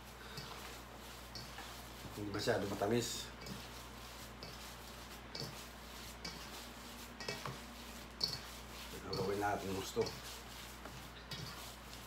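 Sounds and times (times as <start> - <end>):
hands kneading mixture rustling: 0.0 - 12.0.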